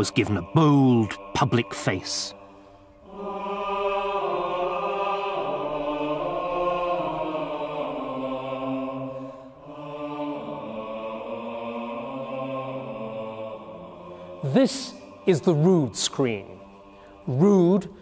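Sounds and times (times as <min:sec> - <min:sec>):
voices singing slow chant: 0:00.0 - 0:18.0.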